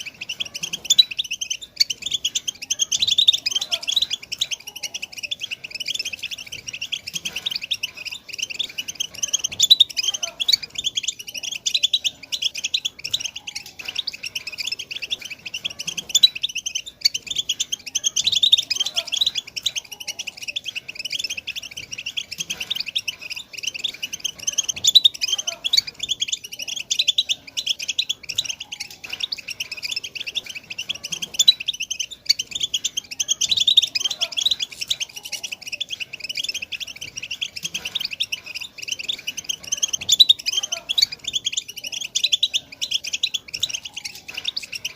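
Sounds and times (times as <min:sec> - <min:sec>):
flock of finches twittering: 0:00.0 - 0:44.9.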